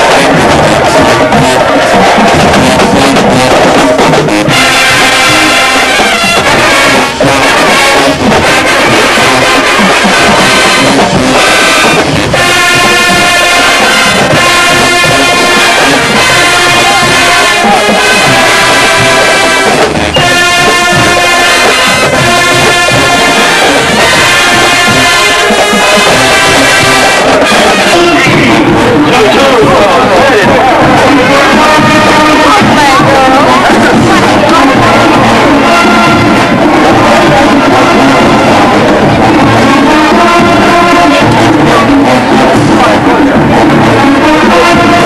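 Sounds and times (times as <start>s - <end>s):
drums: 0.0s - 45.0s
marching band brass music: 0.0s - 45.0s.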